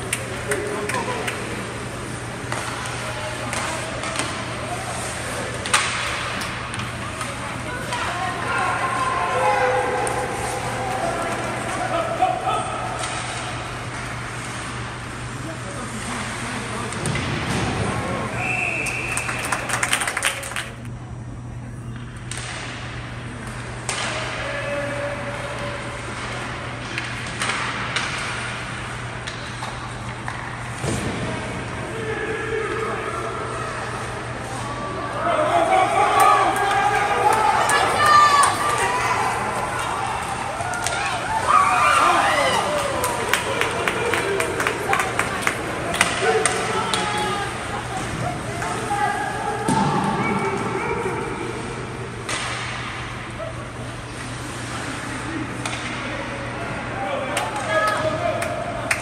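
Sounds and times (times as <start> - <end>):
hockey sticks and puck clacking: 0.0 - 18.0, 21.9 - 31.3, 35.8 - 53.2, 53.9 - 59.0.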